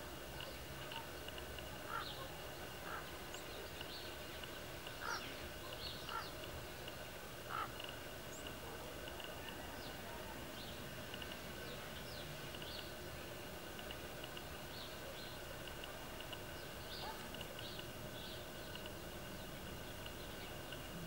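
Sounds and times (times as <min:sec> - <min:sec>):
low background hiss: 0:00.0 - 0:21.0
faint bird chirps: 0:00.3 - 0:06.6, 0:07.5 - 0:13.0, 0:14.5 - 0:21.0.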